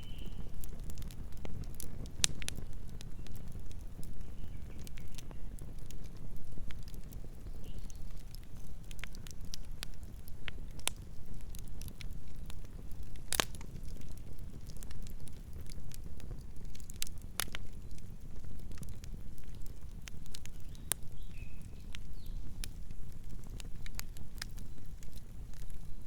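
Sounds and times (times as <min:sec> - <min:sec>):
burning wood crackling and popping: 0:00.0 - 0:26.0
low rumble of campfire: 0:00.0 - 0:26.0.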